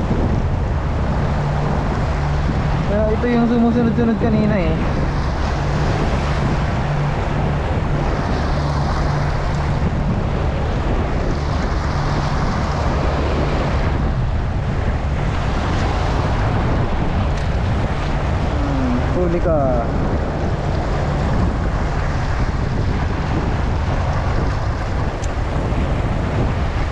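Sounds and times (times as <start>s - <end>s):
sea waves: 0.0s - 26.9s
wind buffeting microphone: 0.0s - 26.9s.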